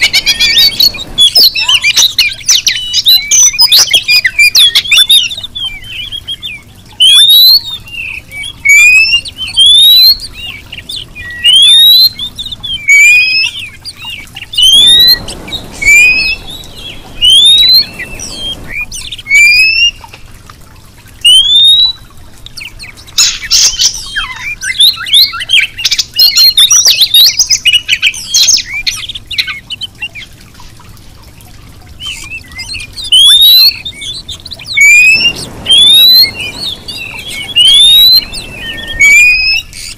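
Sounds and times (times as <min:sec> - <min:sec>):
bird whistling and twittering: 0:00.0 - 0:20.3, 0:21.2 - 0:30.4, 0:31.9 - 0:39.9.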